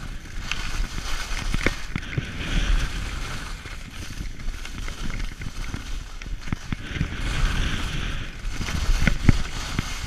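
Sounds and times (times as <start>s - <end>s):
skis scraping over snow: 0.0s - 10.0s
wind buffeting microphone: 0.0s - 10.0s.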